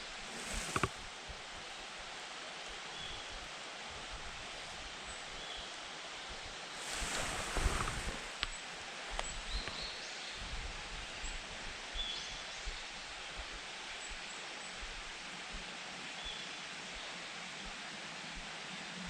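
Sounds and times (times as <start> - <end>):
steady hiss: 0.0 - 15.8.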